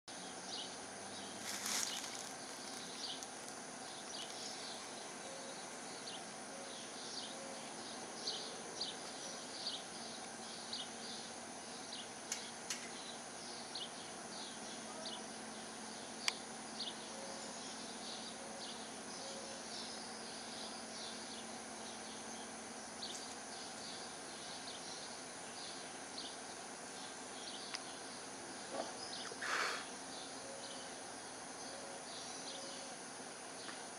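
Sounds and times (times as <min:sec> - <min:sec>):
insects and birds chirping: 0:00.1 - 0:33.9
steady hiss: 0:00.1 - 0:33.9.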